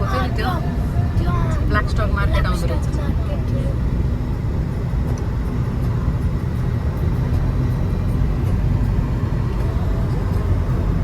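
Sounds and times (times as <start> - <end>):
car tyres and engine rumbling: 0.0 - 11.0.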